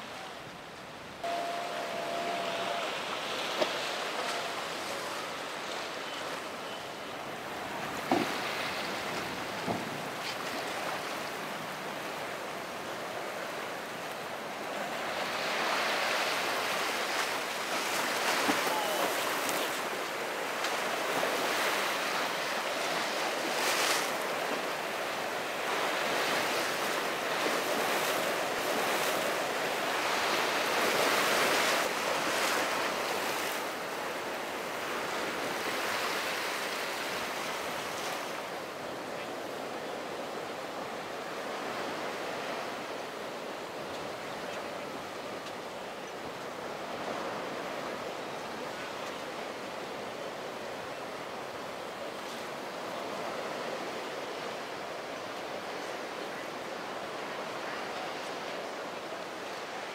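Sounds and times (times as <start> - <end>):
ocean waves breaking: 0.0 - 58.7.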